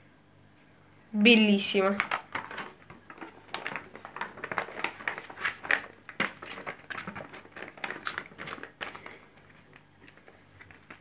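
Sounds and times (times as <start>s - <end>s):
foil wrapper and paper crinkling: 1.9s - 11.0s.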